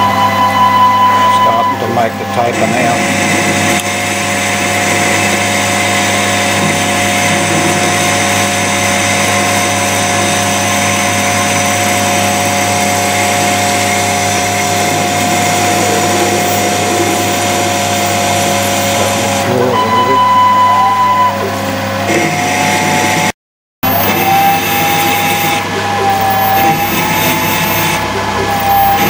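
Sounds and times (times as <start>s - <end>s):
lathe machine hum and whine: 0.0s - 29.0s.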